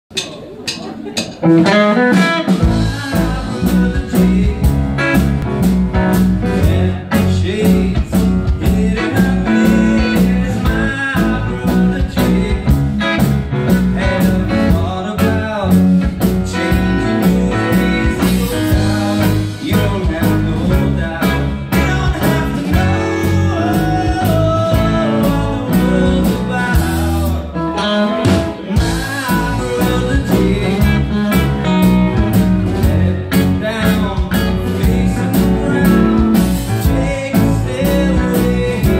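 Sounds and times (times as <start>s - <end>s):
drum kit beat: 0.1s - 38.9s
electric guitar: 1.3s - 38.9s
electric bass: 1.4s - 38.9s
man singing: 1.5s - 38.9s.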